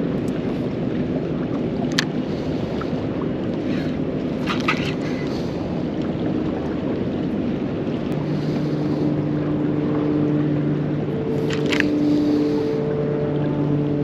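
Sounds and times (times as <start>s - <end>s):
boat motor humming: 0.0s - 14.0s
water noise: 0.0s - 14.0s
wind: 0.0s - 14.0s.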